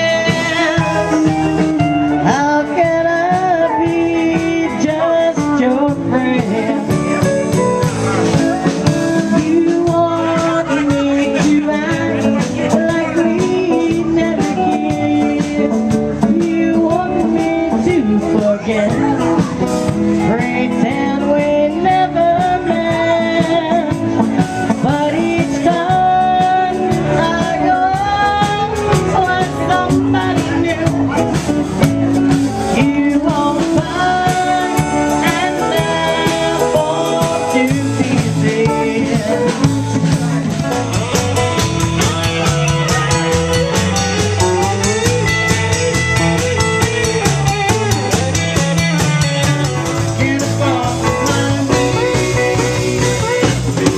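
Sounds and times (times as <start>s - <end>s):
blues-rock band playing: 0.0s - 53.9s.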